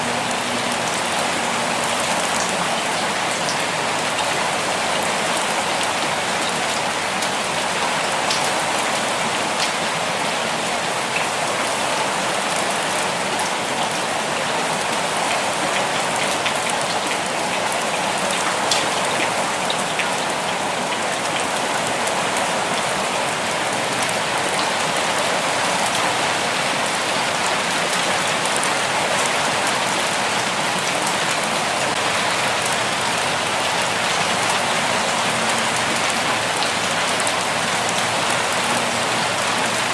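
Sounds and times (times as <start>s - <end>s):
raindrops ticking on a surface: 0.0s - 39.9s
steady rain hiss: 0.0s - 39.9s.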